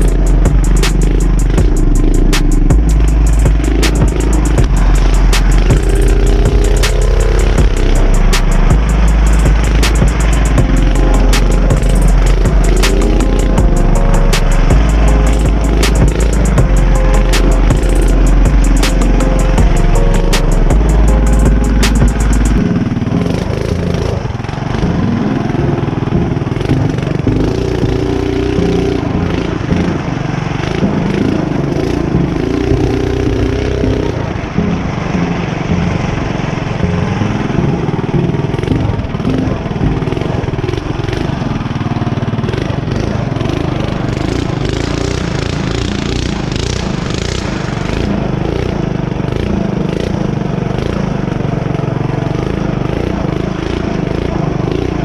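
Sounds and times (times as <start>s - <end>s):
small motorbike engine revving: 0.0s - 55.0s.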